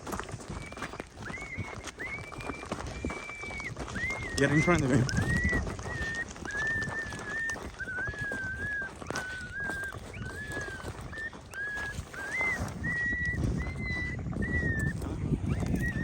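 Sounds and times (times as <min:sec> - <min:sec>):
movement noise: 0:00.0 - 0:16.0
electronic whistle-like call: 0:00.5 - 0:16.0.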